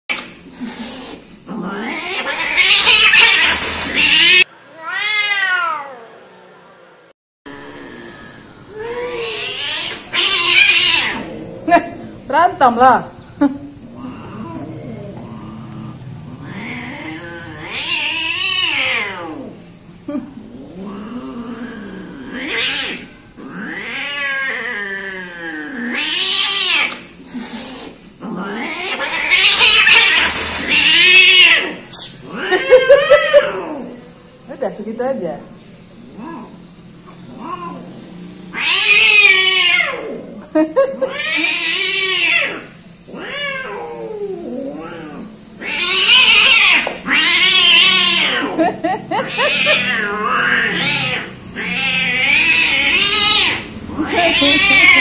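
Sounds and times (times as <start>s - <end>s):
cats yowling: 1.5s - 6.2s, 7.7s - 12.0s, 13.8s - 19.7s, 20.4s - 34.2s, 36.0s - 55.0s.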